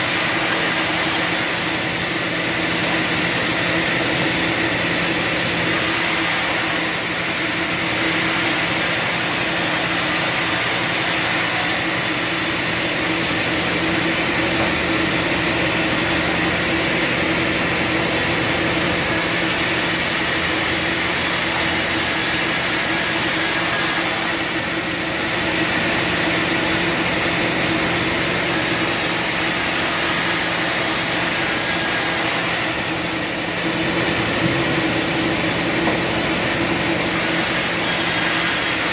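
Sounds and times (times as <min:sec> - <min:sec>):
bandsaw sawing wood: 0:00.0 - 0:38.9.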